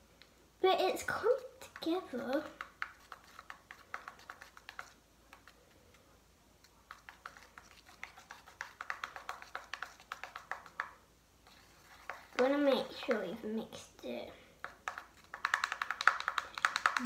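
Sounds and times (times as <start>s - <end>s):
slime stirred with a spoon: 1.0s - 17.0s.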